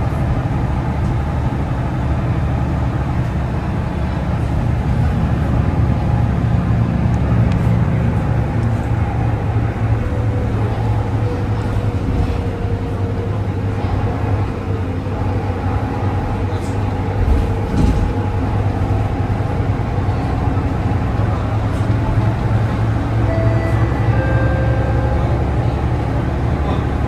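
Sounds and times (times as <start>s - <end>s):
bus engine and road drone: 0.0s - 27.0s.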